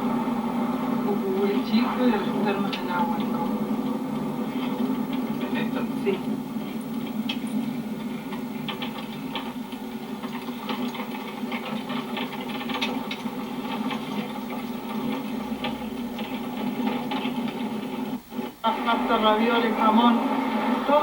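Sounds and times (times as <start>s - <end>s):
light rattles and clicks: 1.5s - 18.5s.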